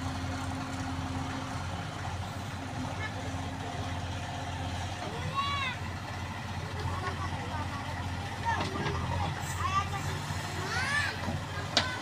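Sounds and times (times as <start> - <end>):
backhoe diesel engine running: 0.0 - 12.0.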